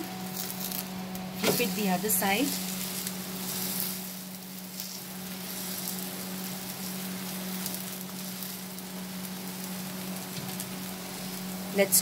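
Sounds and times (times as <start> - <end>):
pancake sizzling in oil: 0.2 - 12.0.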